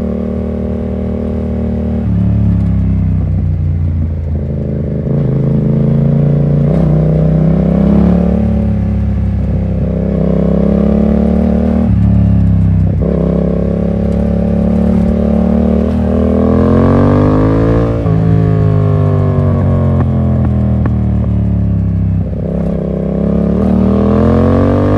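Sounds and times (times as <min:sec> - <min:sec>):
motorcycle engine under load: 0:00.0 - 0:24.9.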